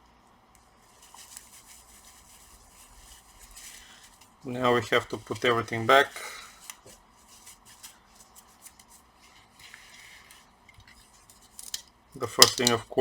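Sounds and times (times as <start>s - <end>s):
light rustling of hands: 0.5s - 5.9s, 6.5s - 11.6s.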